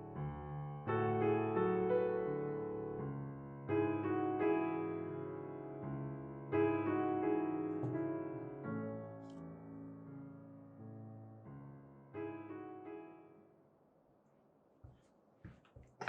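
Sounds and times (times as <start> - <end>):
gentle piano chords: 0.0 - 13.7.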